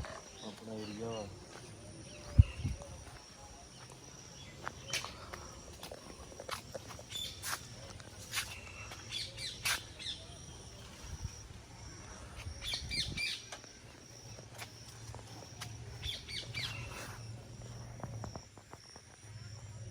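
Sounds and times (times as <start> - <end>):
small birds chirping: 0.0 - 17.4.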